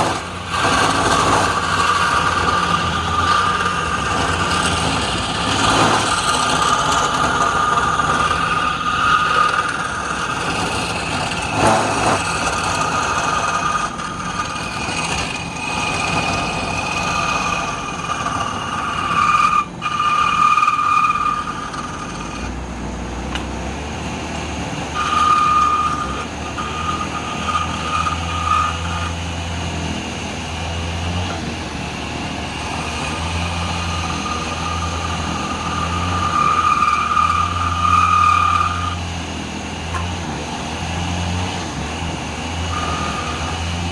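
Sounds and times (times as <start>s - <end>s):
wood lathe whine: 0.0s - 43.9s.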